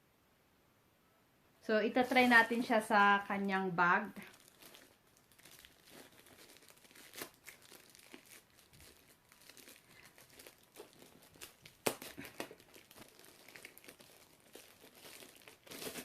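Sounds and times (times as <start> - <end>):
packaging crinkling: 2.0 - 16.0.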